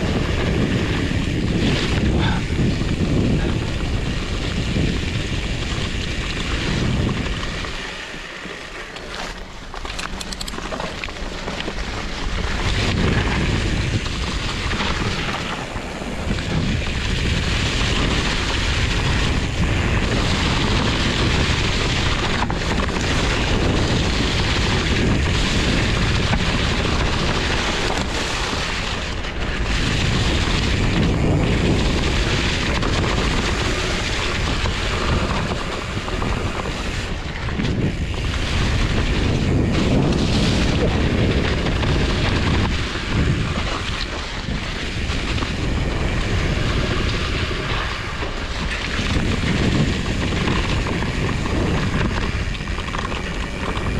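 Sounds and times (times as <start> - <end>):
low rumble of bike riding: 0.0 - 53.9
wind rushing over microphone: 0.0 - 53.9.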